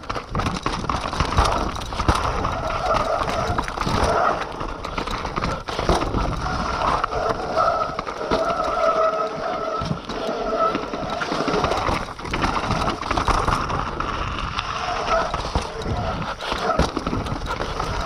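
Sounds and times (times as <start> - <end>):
bike clattering and rattling: 0.0 - 18.0
tyres rolling over dirt: 0.0 - 18.0.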